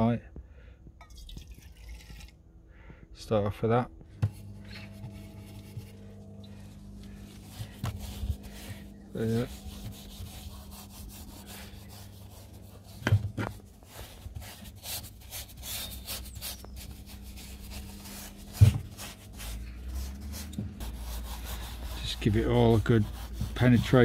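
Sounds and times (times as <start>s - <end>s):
paintbrush scrubbing wood: 4.2s - 24.0s.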